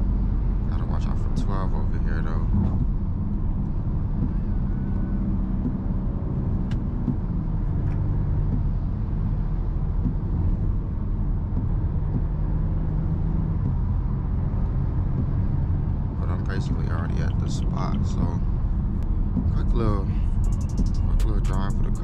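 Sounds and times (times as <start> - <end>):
car engine running: 0.0 - 22.0
road and tyre noise: 0.0 - 22.0.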